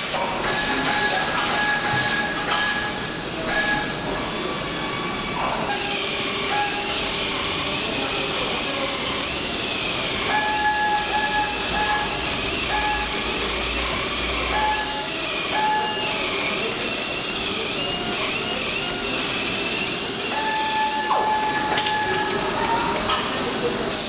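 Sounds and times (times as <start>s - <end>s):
machine hissing: 0.0s - 22.6s, 23.8s - 24.0s
machine whine: 0.0s - 23.2s.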